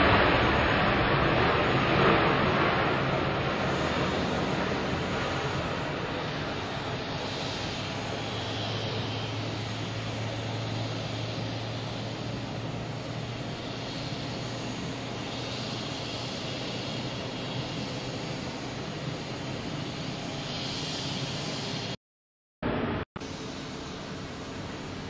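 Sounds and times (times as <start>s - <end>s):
jet engines rumbling: 0.0s - 22.0s, 22.6s - 25.0s.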